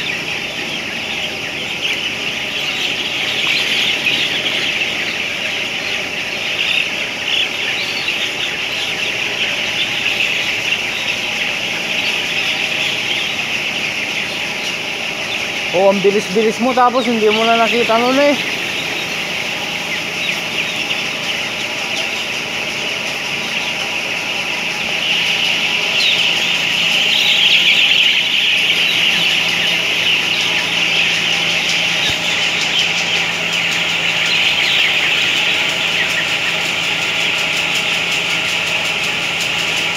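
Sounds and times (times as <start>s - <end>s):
chicks peeping: 0.0s - 39.9s
ventilation fans humming: 0.0s - 39.9s.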